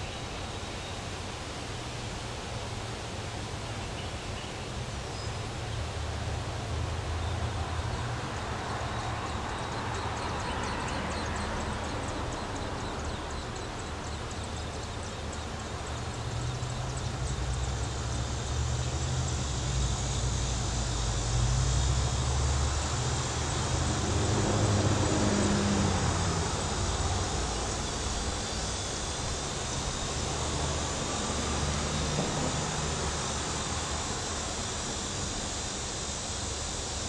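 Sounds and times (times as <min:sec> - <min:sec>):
motor traffic rumble: 0:00.0 - 0:37.0.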